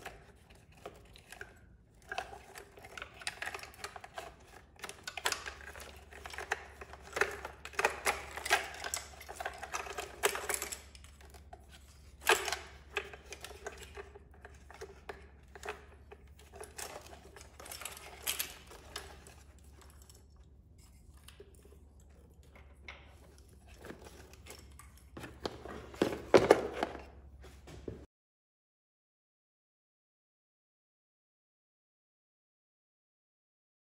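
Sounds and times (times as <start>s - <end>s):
cable rustling: 0.0s - 28.1s.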